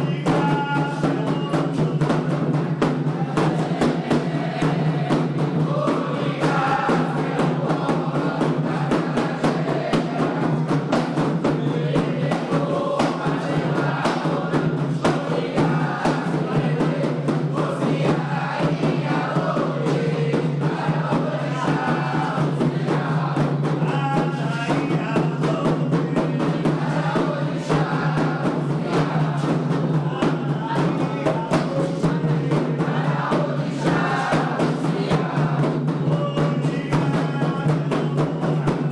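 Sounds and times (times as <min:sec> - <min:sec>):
group singing chants: 0:00.0 - 0:38.9
hand drums beating: 0:00.0 - 0:38.9.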